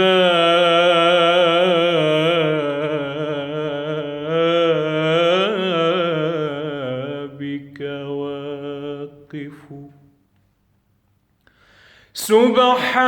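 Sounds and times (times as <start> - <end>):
man singing melismatic chant: 0.0 - 10.2, 12.1 - 13.0.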